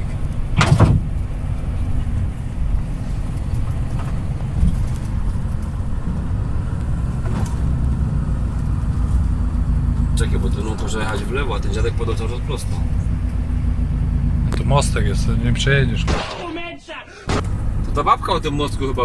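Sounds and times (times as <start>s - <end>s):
truck engine droning: 0.0s - 16.4s, 17.1s - 19.0s
road noise: 0.0s - 19.0s.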